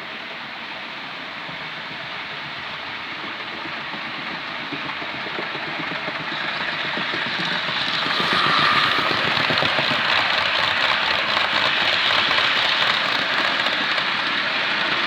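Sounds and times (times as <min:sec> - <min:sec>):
model train rattling whir: 0:00.6 - 0:15.0.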